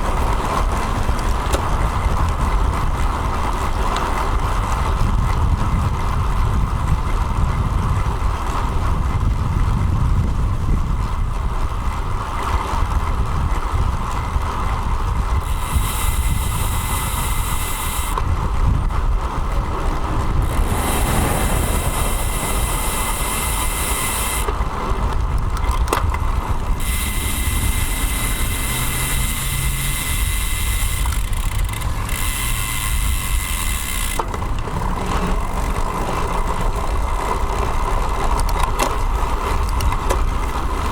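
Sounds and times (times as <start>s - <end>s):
low wind rumble: 0.0s - 40.9s
road noise: 0.0s - 40.9s.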